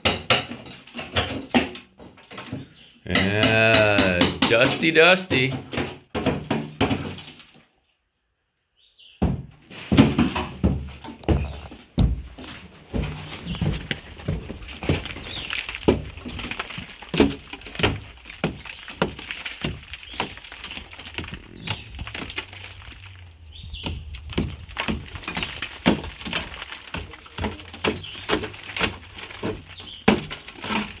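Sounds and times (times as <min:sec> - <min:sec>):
hand tool chipping clay wall: 0:00.0 - 0:07.4, 0:09.2 - 0:31.0
chunks crumbling: 0:00.1 - 0:07.7, 0:09.6 - 0:31.0.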